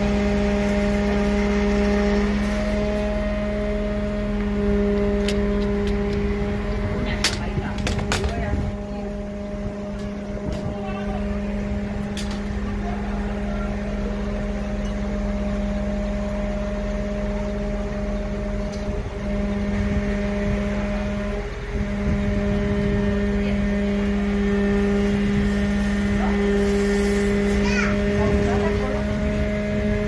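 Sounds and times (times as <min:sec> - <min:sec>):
fire engine motor humming: 0:00.0 - 0:30.0.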